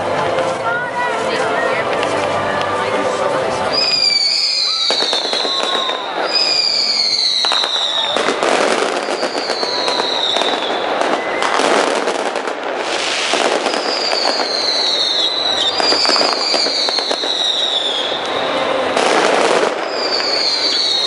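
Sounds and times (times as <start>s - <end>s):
fireworks crackling and popping: 0.0s - 21.0s
fireworks whistles: 3.7s - 21.0s.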